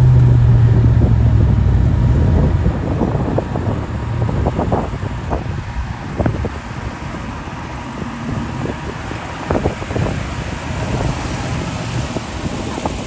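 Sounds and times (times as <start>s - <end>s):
vehicle engine running slowly: 0.0s - 13.0s
wind on microphone: 0.0s - 13.0s.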